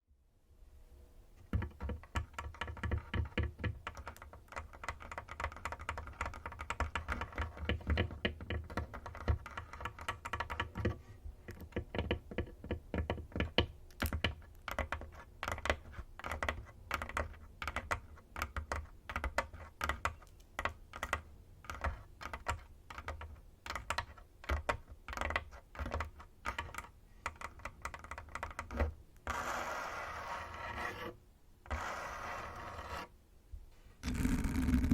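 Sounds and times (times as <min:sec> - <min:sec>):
fingernails tapping: 0:01.5 - 0:29.4.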